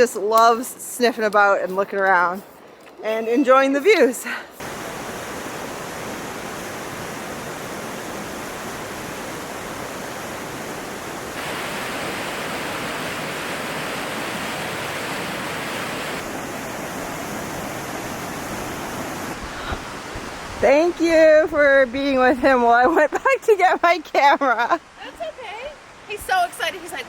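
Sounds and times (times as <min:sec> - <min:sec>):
fast-flowing water rushing: 0:03.4 - 0:27.0.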